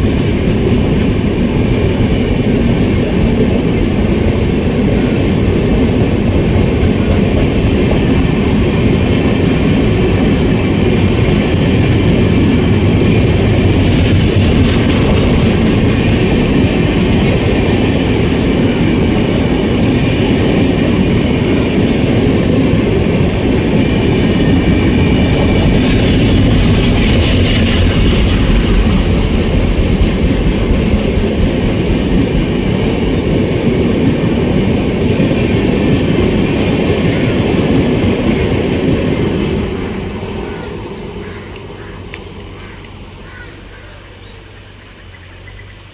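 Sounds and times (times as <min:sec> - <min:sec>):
train passing at speed: 0:00.0 - 0:45.9.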